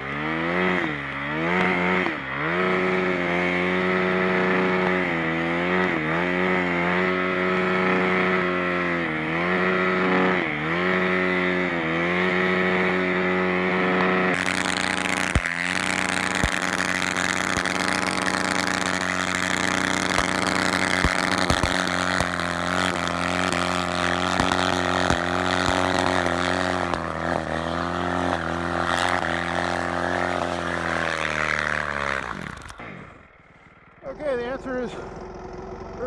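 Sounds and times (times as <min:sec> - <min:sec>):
wheel churning through snow: 0:00.0 - 0:33.2
dirt bike engine: 0:00.0 - 0:36.0.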